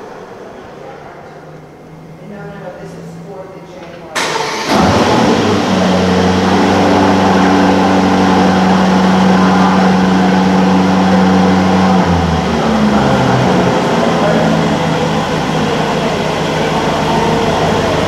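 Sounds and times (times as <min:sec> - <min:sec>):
car engine idling: 0:01.8 - 0:18.0.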